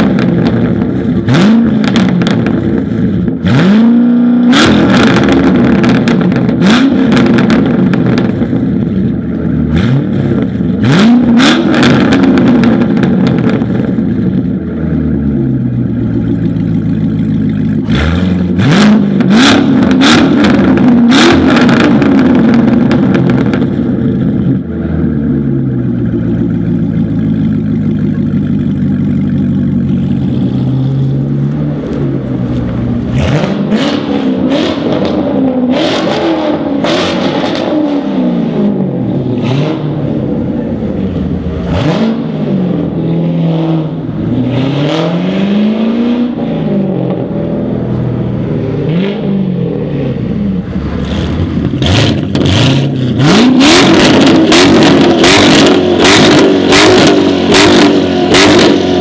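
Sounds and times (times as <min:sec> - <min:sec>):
exhaust cracks: 0:00.0 - 0:43.0, 0:50.1 - 0:59.0
sports car engine revving: 0:00.0 - 0:59.0.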